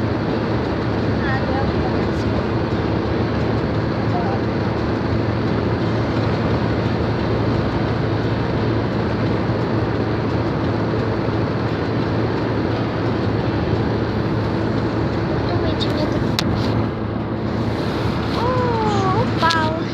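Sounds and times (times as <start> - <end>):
vehicle interior road noise: 0.0 - 19.9.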